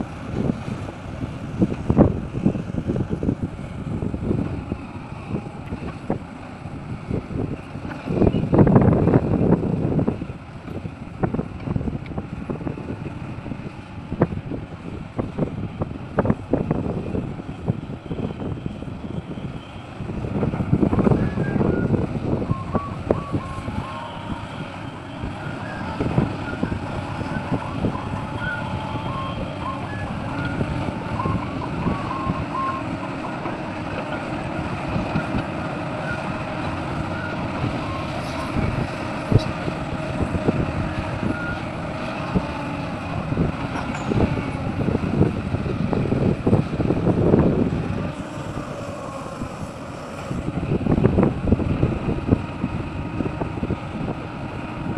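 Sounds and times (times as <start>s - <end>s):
diesel heavy equipment running: 0.0s - 54.9s.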